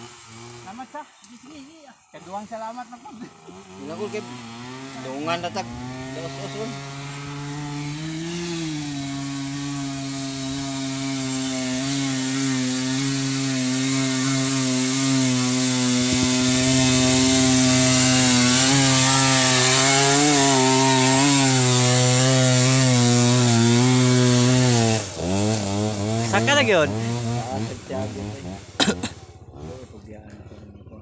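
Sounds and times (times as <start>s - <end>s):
two-stroke dirt bike engine: 0.0s - 31.0s.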